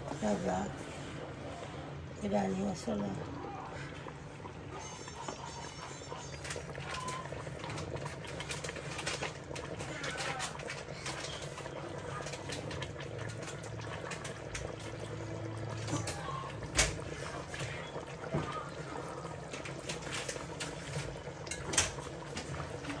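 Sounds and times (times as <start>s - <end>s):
water pouring: 0.0s - 23.0s.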